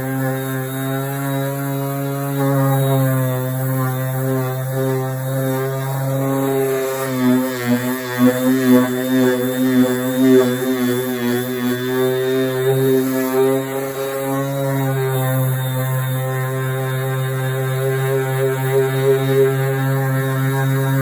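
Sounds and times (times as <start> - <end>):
power sander running: 0.0 - 21.0.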